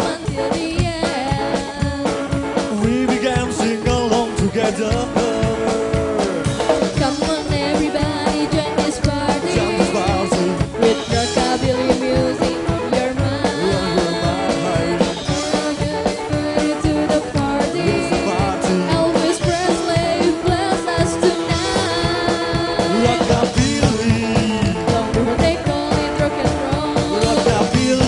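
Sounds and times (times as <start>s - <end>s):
bass guitar: 0.0s - 28.0s
drum kit beat: 0.0s - 28.0s
electric guitar: 0.0s - 28.0s.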